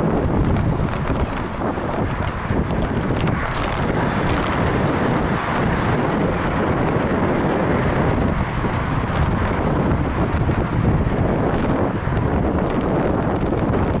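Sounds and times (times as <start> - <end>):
faint clicks and rattles: 0.0 - 14.0
tyres rumbling on road: 0.0 - 14.0
wind buffeting microphone: 0.0 - 14.0.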